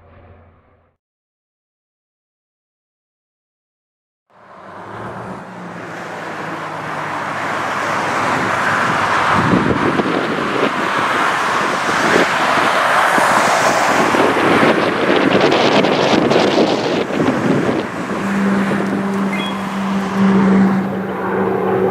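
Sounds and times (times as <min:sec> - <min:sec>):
military aircraft engine: 0:00.0 - 0:00.9, 0:05.3 - 0:21.9.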